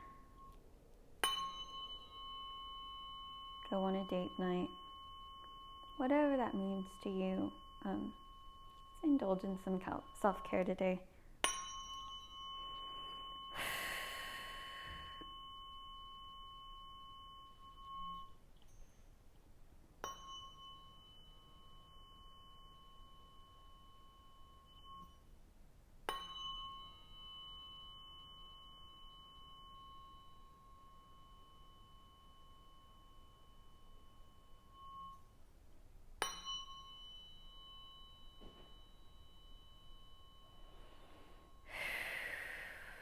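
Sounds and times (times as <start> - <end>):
tuning fork ringing: 0.0 - 43.0.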